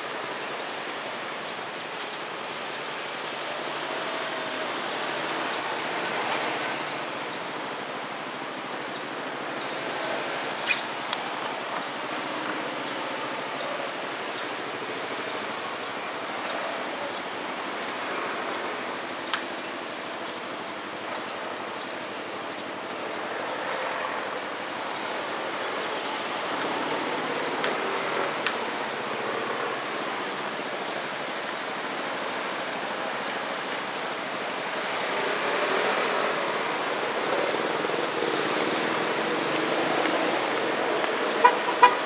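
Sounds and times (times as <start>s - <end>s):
road traffic hum: 0.0s - 42.0s.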